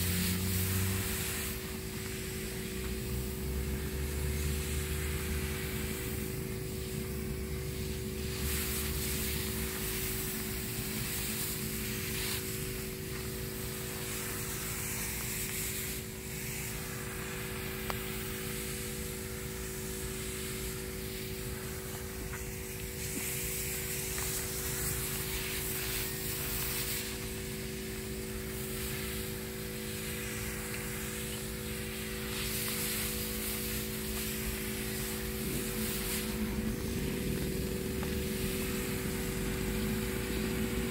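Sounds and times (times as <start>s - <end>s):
spray gun hissing: 0.0s - 40.9s
sprayer engine hum: 0.0s - 40.9s.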